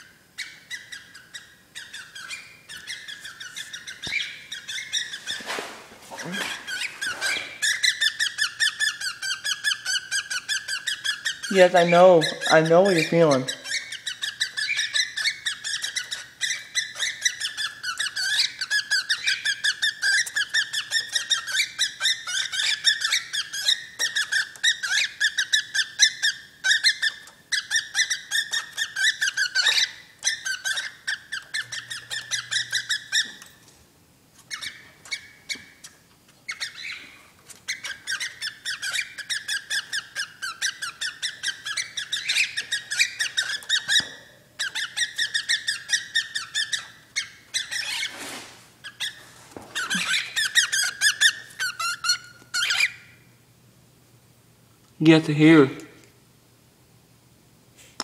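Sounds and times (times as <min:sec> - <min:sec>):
bird squeaky chirps: 0:00.0 - 0:33.6, 0:34.4 - 0:53.2.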